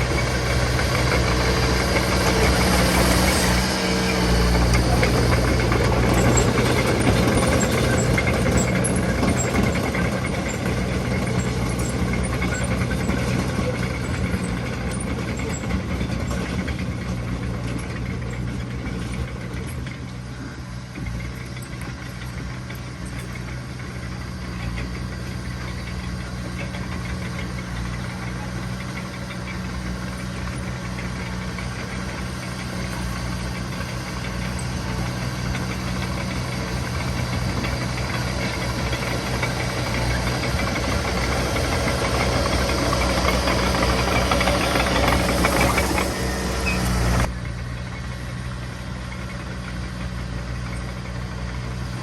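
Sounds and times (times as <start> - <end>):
heavy machinery diesel engine running: 0.0 - 52.0.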